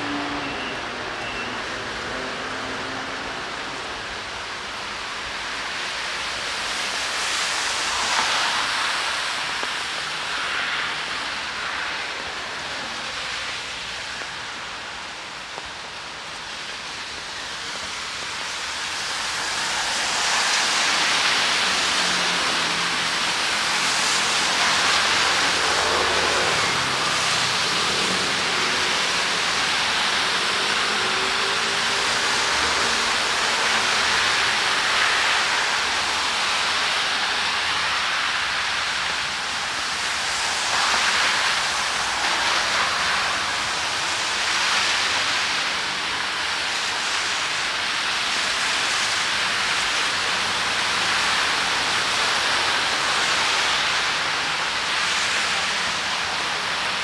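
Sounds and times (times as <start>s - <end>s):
rain falling on street: 0.0s - 57.0s.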